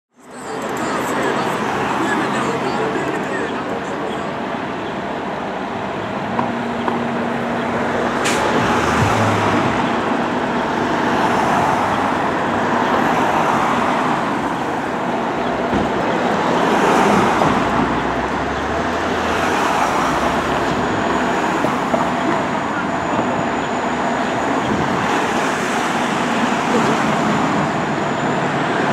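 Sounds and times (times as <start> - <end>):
cars driving past: 0.5 - 28.9.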